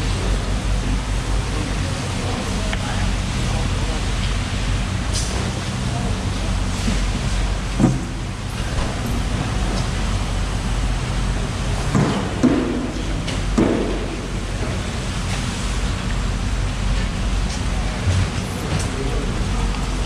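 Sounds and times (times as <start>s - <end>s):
background rumble and hiss: 0.0s - 20.0s.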